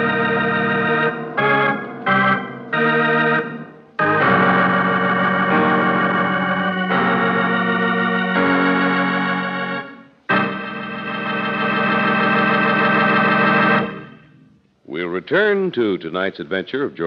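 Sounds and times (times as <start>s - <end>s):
dramatic organ chords: 0.0s - 14.6s.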